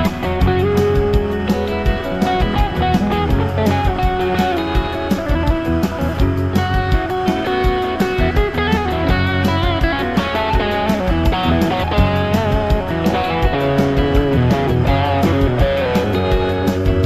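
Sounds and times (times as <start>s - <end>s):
bass guitar: 0.0s - 17.0s
drum beat: 0.0s - 17.0s
electric guitar solo: 0.0s - 17.0s.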